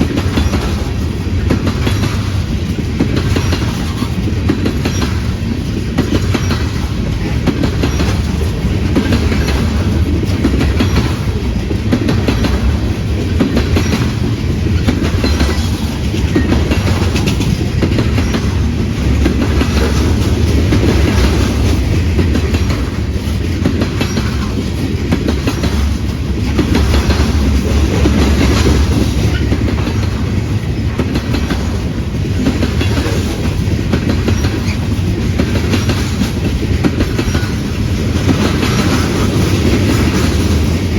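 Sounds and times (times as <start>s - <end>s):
train rumbling past: 0.0s - 40.9s
wheels clicking over rail joints: 0.0s - 40.9s.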